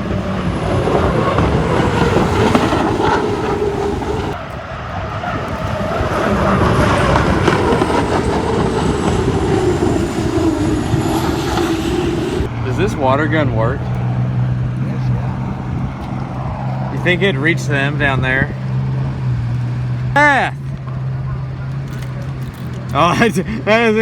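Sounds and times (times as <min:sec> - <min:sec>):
wind on microphone: 0:00.0 - 0:21.4
turbine engine drone: 0:00.0 - 0:24.0.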